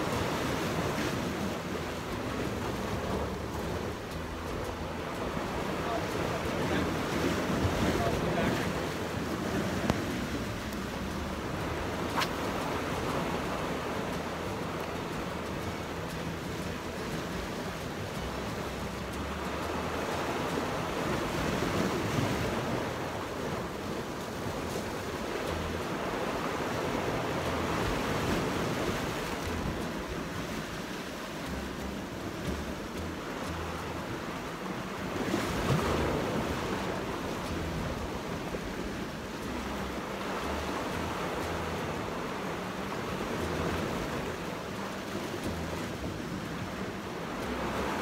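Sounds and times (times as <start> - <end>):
sea waves washing over rocks: 0.0 - 48.0
wind buffeting microphone: 0.0 - 48.0.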